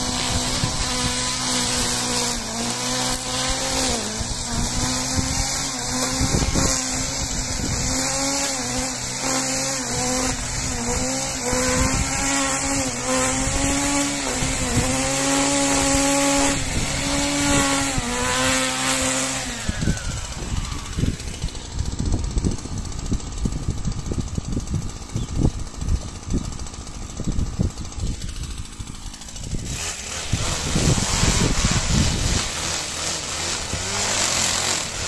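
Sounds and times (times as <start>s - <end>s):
petrol brushcutter running: 0.0s - 35.0s.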